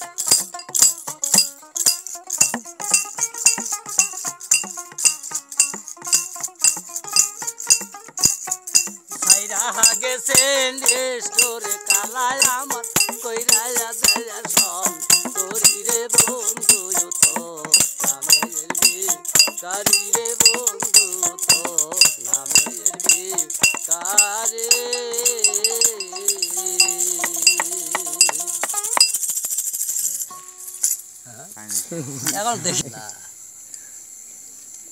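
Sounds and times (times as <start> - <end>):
plucked lute melody: 0.0 - 29.2
jingling beat: 0.0 - 31.0.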